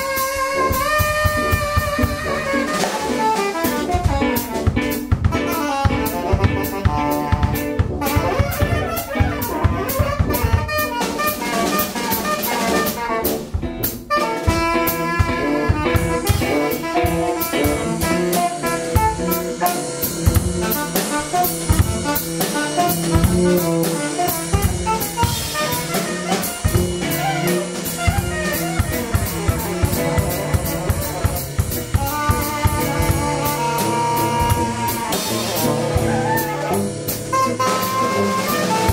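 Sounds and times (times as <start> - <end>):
drum kit drumming: 0.0 - 38.9
electric guitar: 0.0 - 38.9
tenor saxophone: 0.0 - 38.9
tuba: 0.0 - 38.9.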